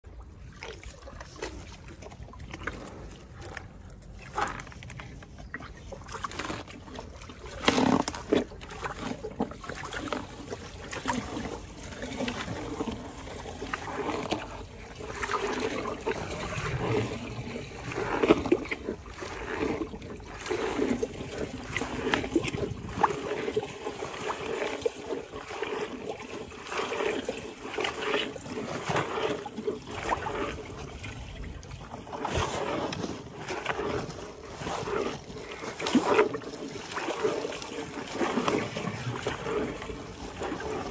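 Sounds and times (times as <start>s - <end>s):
water sloshing and dripping: 0.0s - 40.9s
hippopotamus chewing and crunching: 0.1s - 40.9s.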